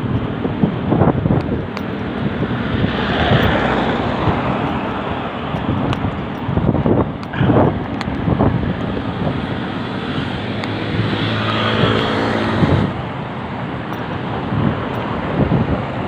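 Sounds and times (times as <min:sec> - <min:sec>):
bicycle road and wind noise: 0:00.0 - 0:16.0
vehicle engine passing: 0:01.9 - 0:16.0.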